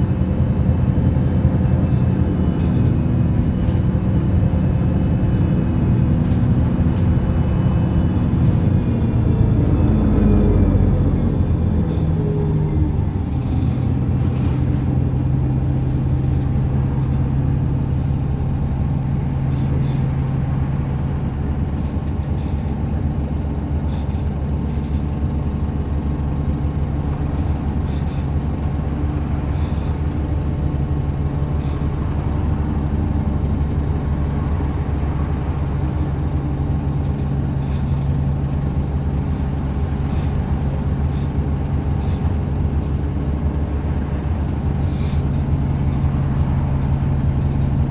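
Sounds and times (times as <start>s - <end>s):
bus engine droning: 0.0s - 47.9s.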